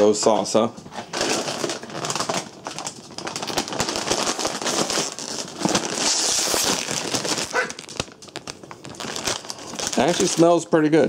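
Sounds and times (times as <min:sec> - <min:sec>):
chip bag crinkling: 0:00.0 - 0:11.0.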